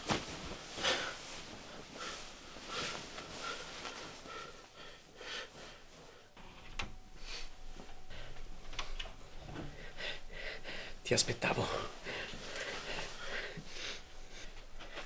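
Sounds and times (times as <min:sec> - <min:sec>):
bedclothes rustling: 0:00.0 - 0:06.4, 0:07.1 - 0:15.0.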